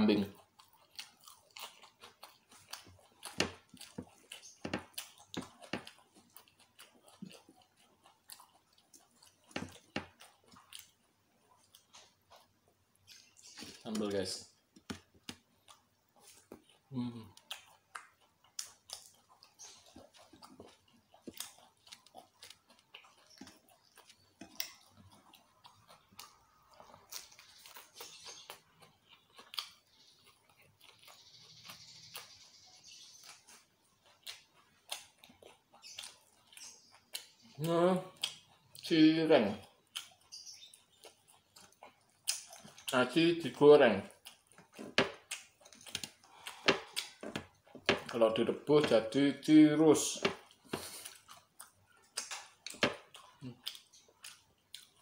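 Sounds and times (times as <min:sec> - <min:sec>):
person chewing food: 0:00.2 - 0:55.0.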